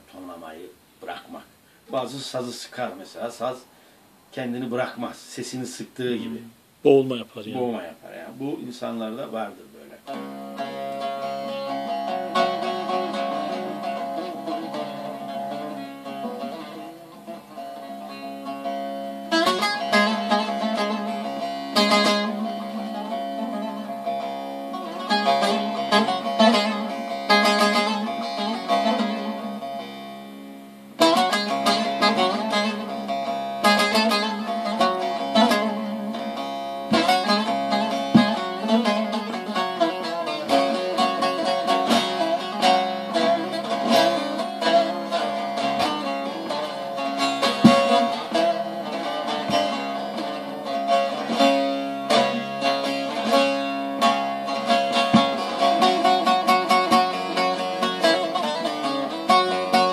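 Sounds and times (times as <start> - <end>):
long-necked lute picked and strummed: 8.8 - 59.9.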